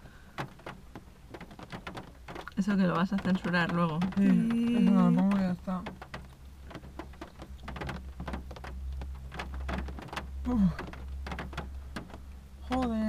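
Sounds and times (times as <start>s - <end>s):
rain pattering on car roof: 0.0s - 13.0s
low steady hum: 2.4s - 13.0s.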